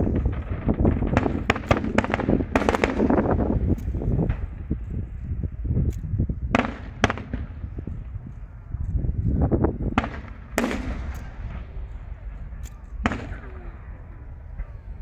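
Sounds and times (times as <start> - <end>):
fireworks booming bursts: 0.0 - 8.7, 9.5 - 15.0
fireworks cracks and pops: 0.0 - 13.6
low rumble of fireworks: 0.0 - 15.0.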